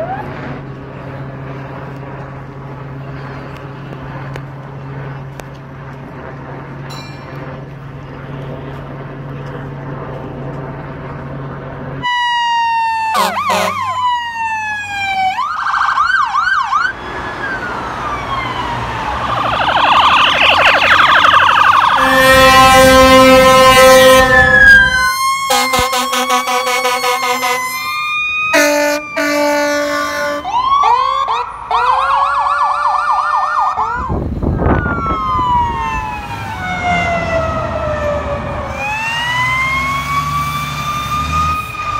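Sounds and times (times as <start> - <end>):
emergency vehicle sirens: 0.0 - 41.9
helicopter drone: 0.0 - 41.9.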